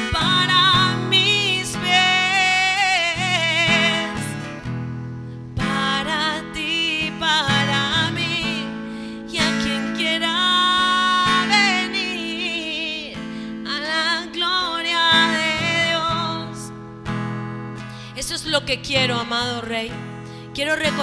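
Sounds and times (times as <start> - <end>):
woman singing worship song: 0.0 - 4.5, 5.6 - 16.8, 18.1 - 21.0
strummed acoustic guitar: 0.0 - 21.0.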